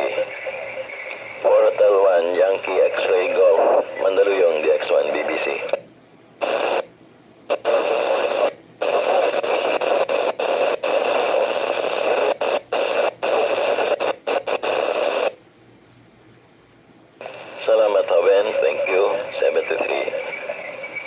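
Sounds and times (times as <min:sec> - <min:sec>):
radio static hiss: 0:00.0 - 0:15.4, 0:17.2 - 0:21.0.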